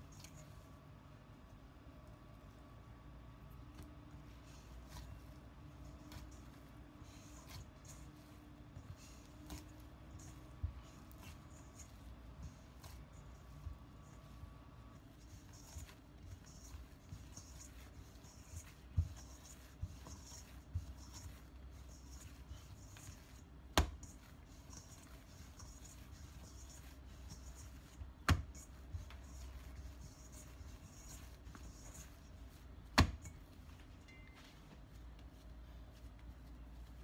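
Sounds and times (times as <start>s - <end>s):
hands kneading dough: 0.0s - 37.0s.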